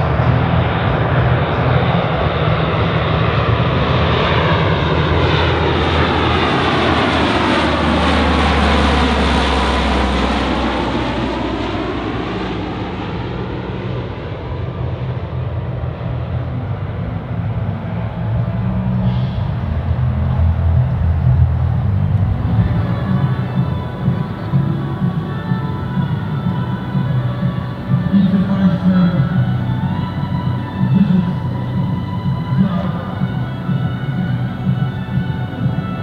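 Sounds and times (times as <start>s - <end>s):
turboprop aircraft passing low: 0.0s - 36.0s.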